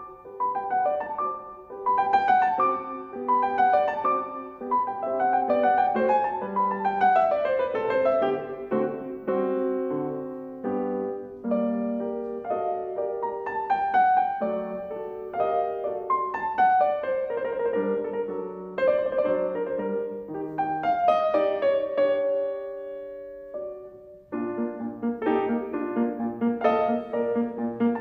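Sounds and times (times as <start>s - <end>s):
classical piano piece: 0.0s - 28.0s.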